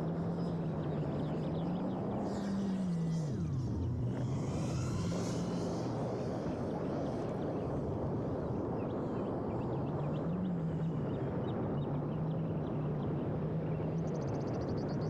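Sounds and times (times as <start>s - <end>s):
drone motors humming: 0.0s - 15.0s
wind noise: 0.0s - 15.0s.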